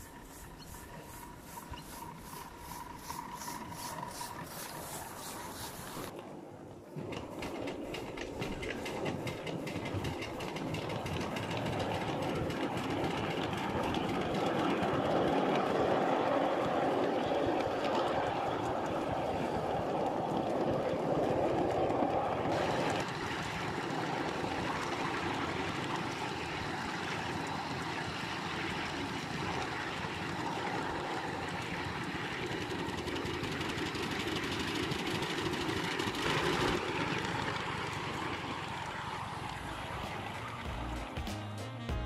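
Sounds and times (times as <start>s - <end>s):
steam rushing: 0.0s - 6.2s, 6.9s - 40.7s
steam locomotive running: 0.0s - 41.8s.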